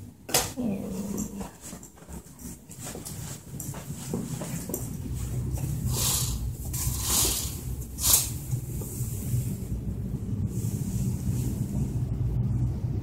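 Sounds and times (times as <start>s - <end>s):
steady low hum: 0.0s - 13.0s
curtain rustling: 1.0s - 12.0s.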